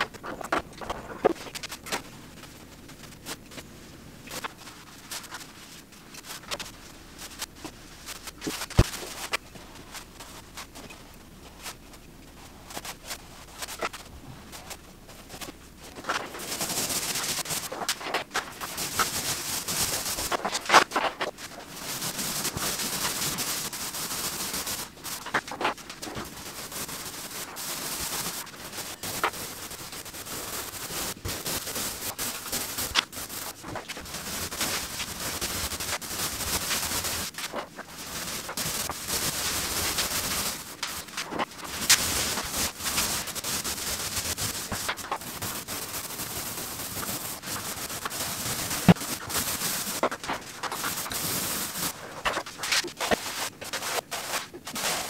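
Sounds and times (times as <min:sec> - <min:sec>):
paint roller hissing on wall: 0:00.0 - 0:55.0.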